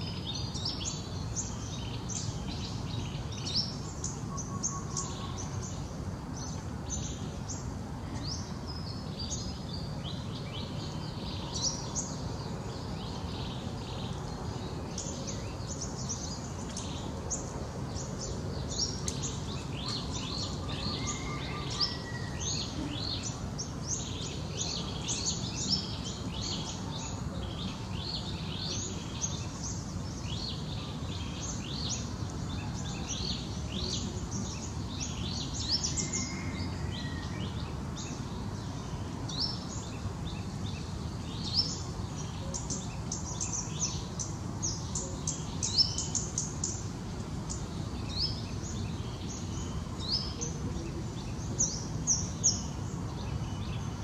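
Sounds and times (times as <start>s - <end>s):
low background noise: 0.0s - 54.0s
small birds chirping: 0.0s - 54.0s.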